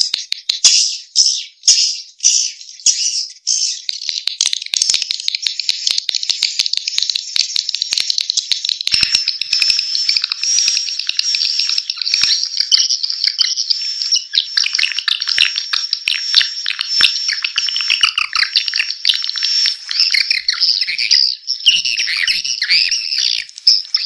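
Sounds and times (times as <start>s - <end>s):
swiftlets twittering and chirping: 0.0s - 24.0s.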